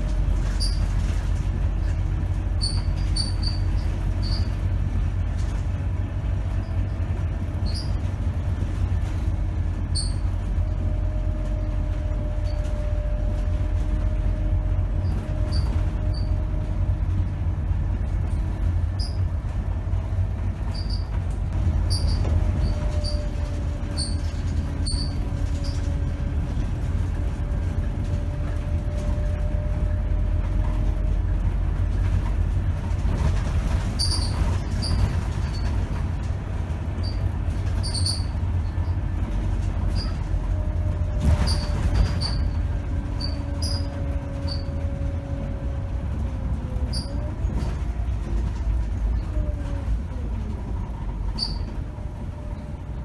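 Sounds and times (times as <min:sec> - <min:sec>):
bus engine and road rumble: 0:00.0 - 0:53.0
rattles and squeaks of bus fittings: 0:00.0 - 0:53.0.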